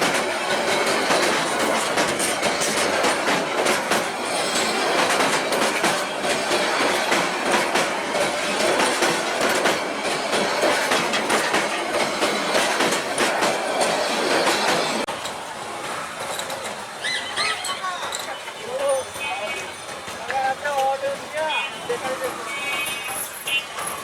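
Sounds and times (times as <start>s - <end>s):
train wheels clattering: 0.0s - 24.0s.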